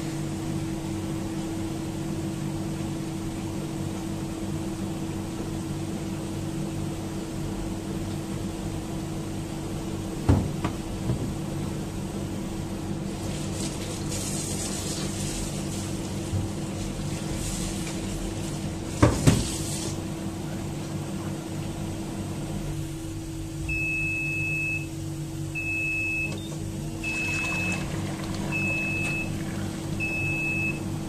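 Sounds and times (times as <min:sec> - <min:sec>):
electric cooktop humming: 0:00.0 - 0:31.0.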